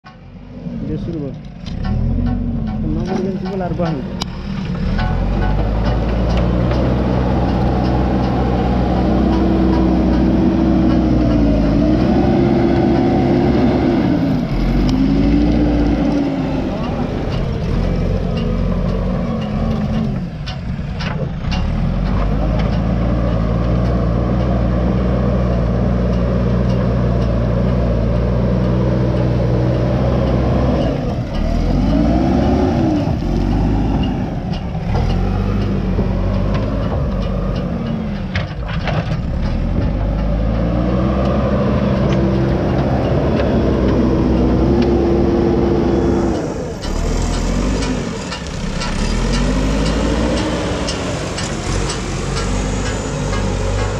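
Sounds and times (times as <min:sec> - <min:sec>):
diesel engine revving: 0:00.0 - 0:53.9
knocks of earth and stones: 0:00.1 - 0:53.9.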